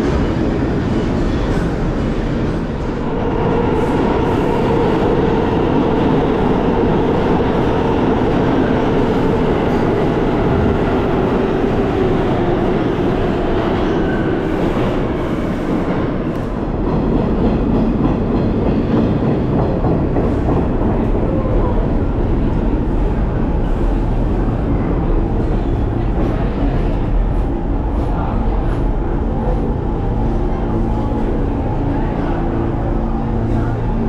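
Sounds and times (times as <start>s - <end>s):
subway train wheels rumbling: 0.0s - 34.0s.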